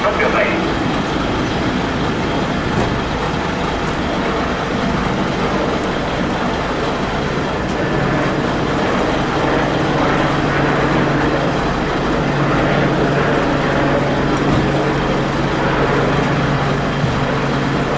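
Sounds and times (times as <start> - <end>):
large vehicle engine humming: 0.0 - 17.9.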